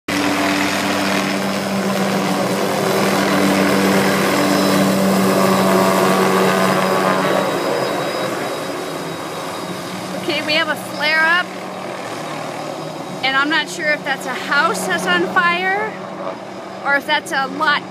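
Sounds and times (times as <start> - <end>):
helicopter flying: 0.1 - 17.9.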